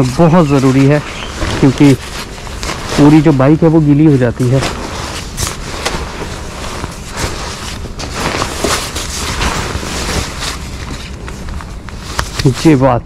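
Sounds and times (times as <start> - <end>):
plastic cover rustling and crinkling: 0.0 - 13.0.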